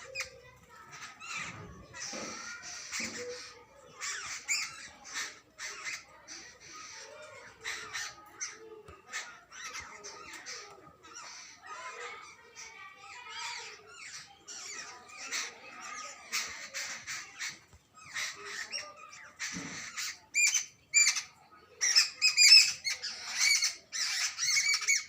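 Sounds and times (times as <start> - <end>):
babblers harsh chatter: 0.0 - 25.0
squeaky bird calls: 0.0 - 25.0.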